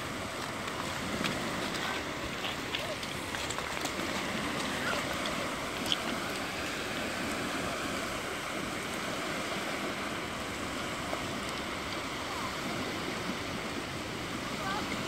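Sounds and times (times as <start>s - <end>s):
waves washing onto pebbles: 0.0s - 15.0s.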